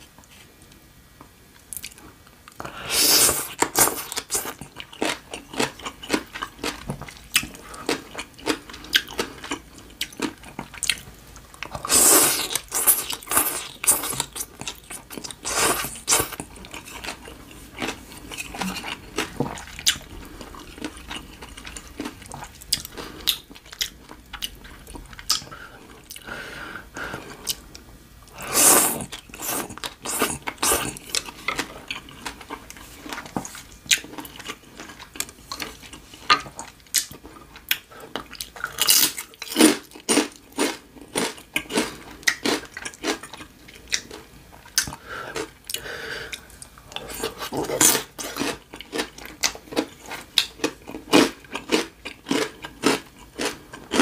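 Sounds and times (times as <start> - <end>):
person chewing: 1.7 - 54.0.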